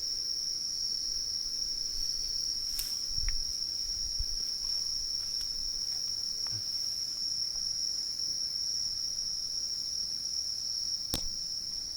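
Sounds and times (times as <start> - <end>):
crickets trilling: 0.0 - 11.9.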